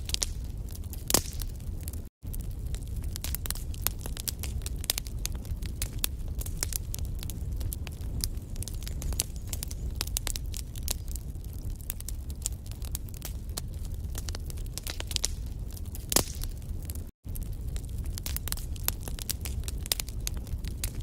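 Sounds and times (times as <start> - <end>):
low rumble of flame: 0.0 - 21.0
wood fire crackling and popping: 0.0 - 21.0.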